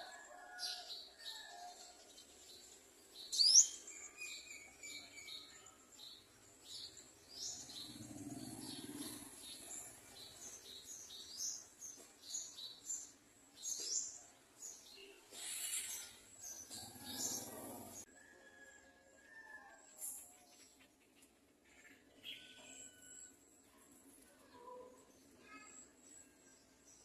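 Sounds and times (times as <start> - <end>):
small birds chirping: 0.8 - 18.1, 20.0 - 27.0.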